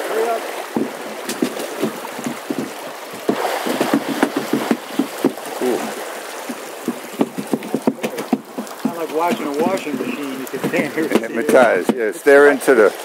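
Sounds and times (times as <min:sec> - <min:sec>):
rushing river water: 0:00.0 - 0:13.0
water spilling off baskets: 0:00.0 - 0:13.0
knocks from turning frame: 0:00.7 - 0:05.5, 0:06.4 - 0:12.0.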